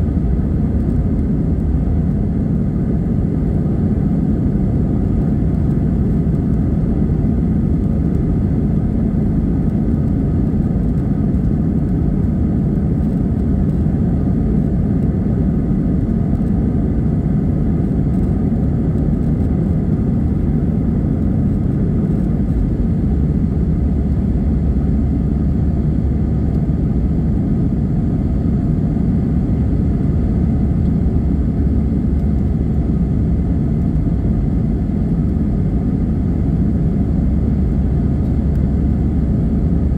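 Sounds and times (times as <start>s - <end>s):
jet engine rumble: 0.0s - 39.9s.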